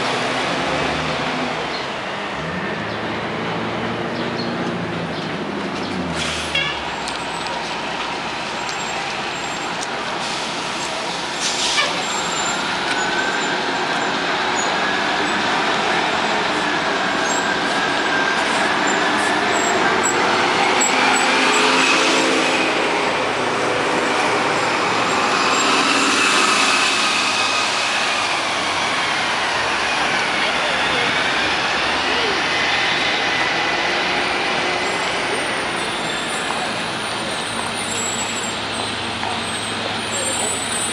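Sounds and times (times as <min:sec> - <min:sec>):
buses driving: 0:00.0 - 0:40.9.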